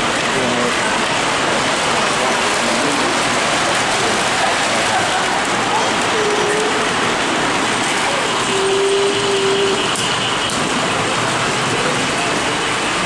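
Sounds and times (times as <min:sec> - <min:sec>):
noisy din of busy hall: 0:00.0 - 0:13.0.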